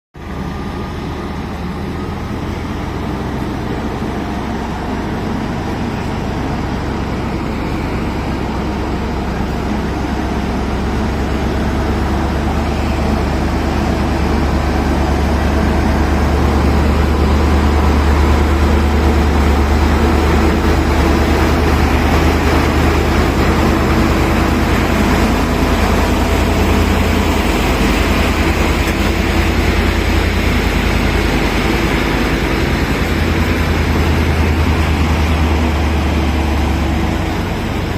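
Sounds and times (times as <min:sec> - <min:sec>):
crane engine droning: 0:00.2 - 0:37.9.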